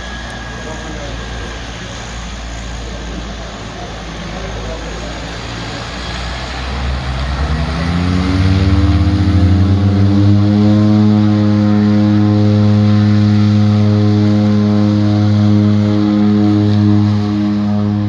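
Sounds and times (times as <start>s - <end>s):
engine drone: 0.0s - 18.0s.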